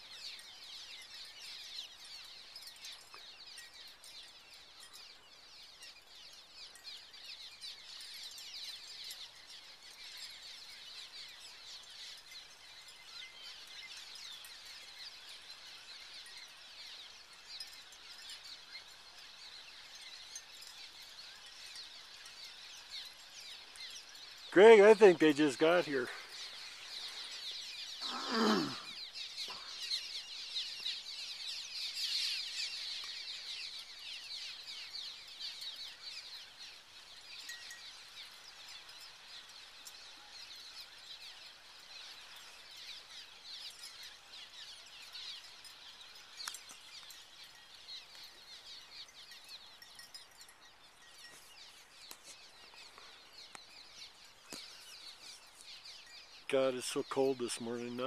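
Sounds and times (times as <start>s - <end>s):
swallows twittering: 0.0s - 58.0s.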